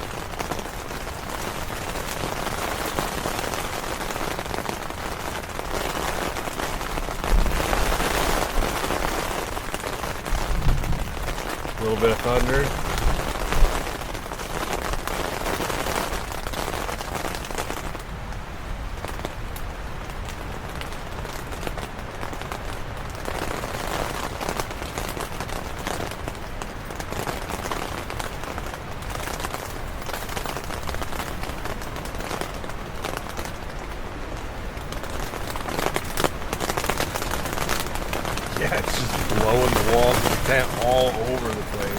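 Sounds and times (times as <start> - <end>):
rain on tent fabric: 0.0 - 41.9
wind gusts shaking tent: 0.0 - 41.9.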